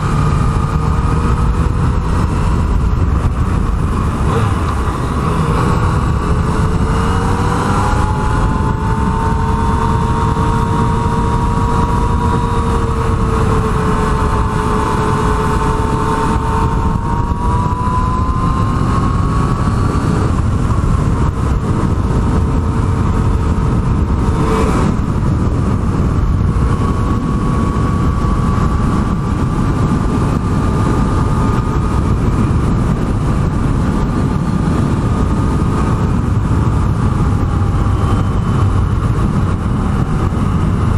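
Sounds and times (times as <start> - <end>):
motorcycle engine cruising: 0.0 - 40.9
wind and road noise: 0.0 - 40.9.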